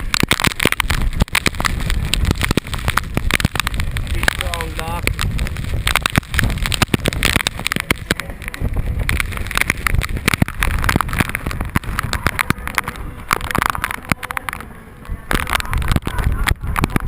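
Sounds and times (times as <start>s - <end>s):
heavy rain spattering: 0.0s - 17.0s
wind buffeting microphone: 0.0s - 17.0s.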